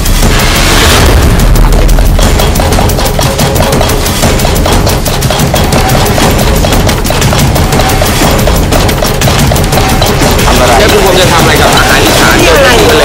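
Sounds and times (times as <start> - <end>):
pestle pounding in stone mortar: 1.8 - 12.9.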